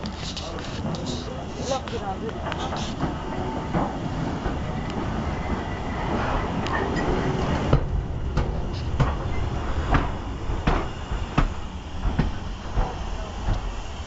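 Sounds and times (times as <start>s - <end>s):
steam locomotive rumbling and knocking: 0.0s - 14.0s.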